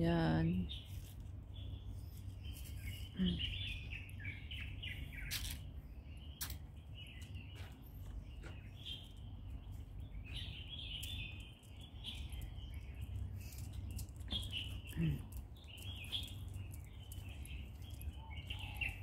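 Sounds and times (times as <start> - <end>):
low background rumble: 0.0 - 19.0
small birds chirping: 0.0 - 19.0.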